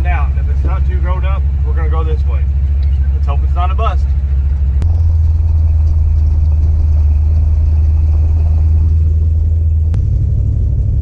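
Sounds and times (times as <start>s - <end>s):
pickup truck engine and road drone: 0.0s - 11.0s.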